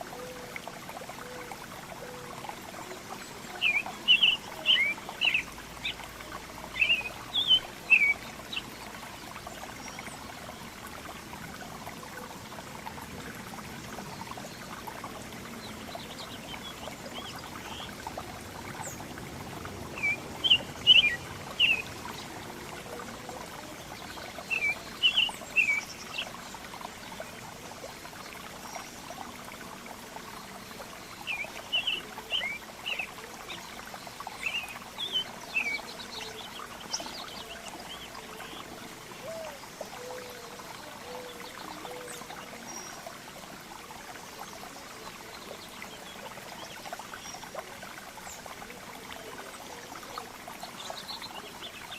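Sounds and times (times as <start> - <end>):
songbirds chirping: 1.1 - 51.9.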